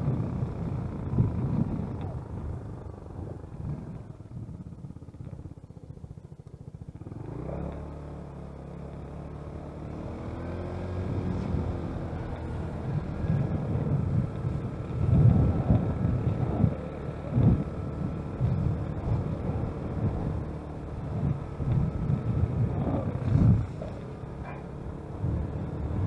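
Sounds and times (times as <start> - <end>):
wind buffeting microphone: 0.0 - 5.8, 10.0 - 26.0
engine hum: 0.0 - 26.0.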